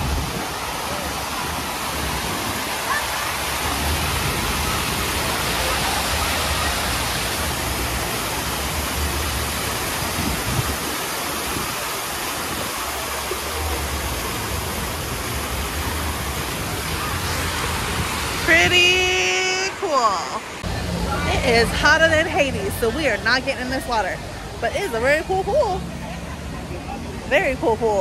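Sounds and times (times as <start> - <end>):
fountain water splashing: 0.0 - 28.0
water cascading into pool: 0.0 - 28.0.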